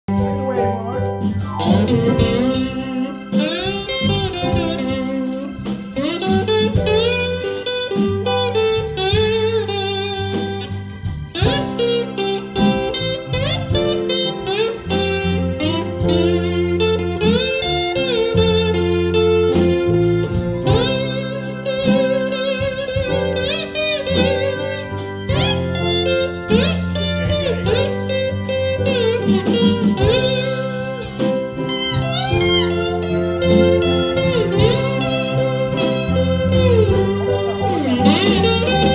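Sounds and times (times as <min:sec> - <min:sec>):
bass notes: 0:00.0 - 0:38.9
drum kit beat: 0:00.1 - 0:38.9
slide electric guitar solo: 0:00.1 - 0:38.9.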